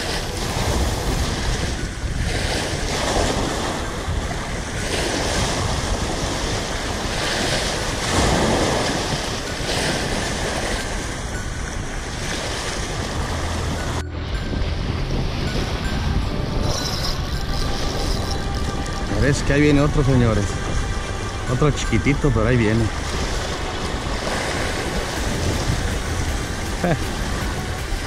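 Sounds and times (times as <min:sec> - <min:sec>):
ocean waves washing: 0:00.0 - 0:28.0
wind on microphone: 0:00.0 - 0:28.0.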